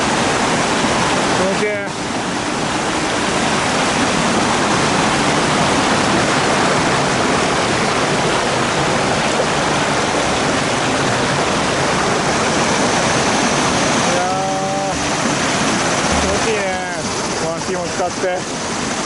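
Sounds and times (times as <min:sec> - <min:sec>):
river rapids rushing over rocks: 0:00.0 - 0:19.0
waterfall roaring: 0:00.0 - 0:19.0.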